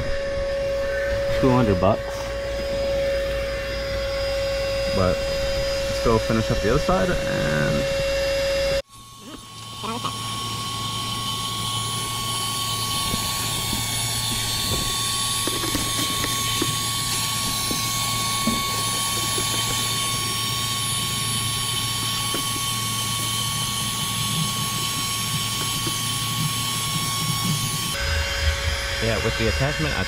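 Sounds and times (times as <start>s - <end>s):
handheld vacuum cleaner running: 0.0s - 30.0s.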